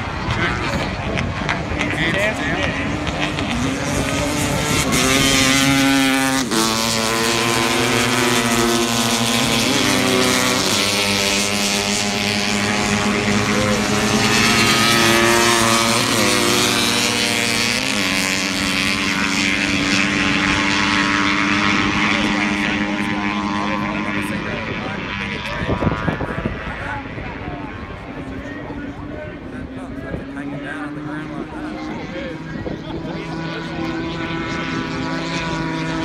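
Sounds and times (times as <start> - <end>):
racing motorcycle engines: 0.0 - 36.0.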